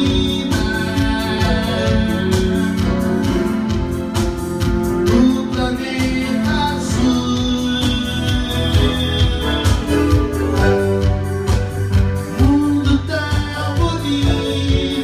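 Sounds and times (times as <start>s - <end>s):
person singing: 0.0s - 4.0s, 4.8s - 11.2s, 12.2s - 15.0s
live band playing: 0.0s - 15.0s.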